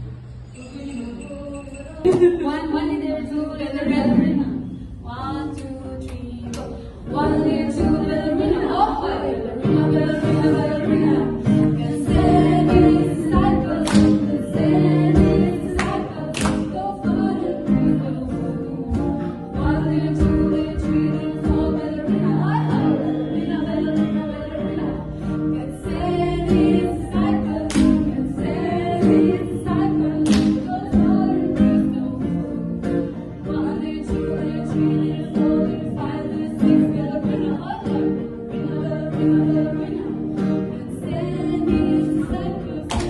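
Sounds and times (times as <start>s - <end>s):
group singing worship song: 2.1s - 4.9s, 6.6s - 43.0s.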